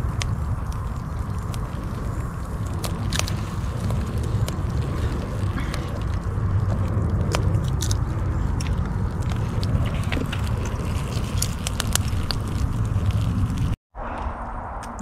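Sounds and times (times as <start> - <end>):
wood fire crackling: 0.0 - 13.8
steady low rumble: 0.0 - 15.0.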